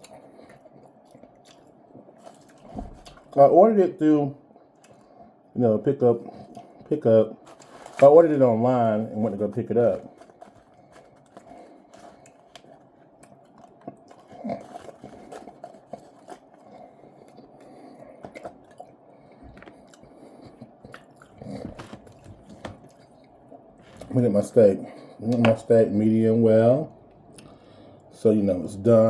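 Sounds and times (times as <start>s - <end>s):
person chewing food: 0.0s - 3.4s, 4.5s - 5.6s, 6.2s - 24.1s, 27.0s - 28.1s.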